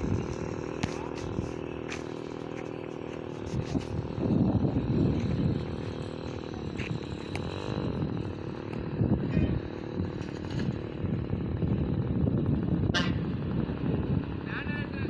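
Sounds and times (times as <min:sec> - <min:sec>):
mini bike engine rumbling: 0:00.0 - 0:15.0.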